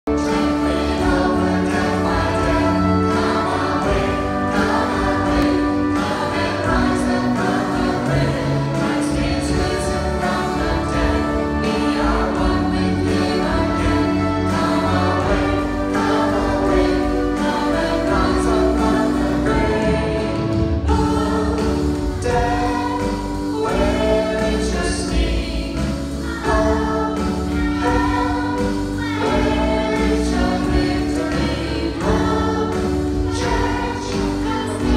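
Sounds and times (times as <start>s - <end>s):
children's choir singing: 0.1s - 34.9s
instrumental accompaniment: 0.1s - 34.9s.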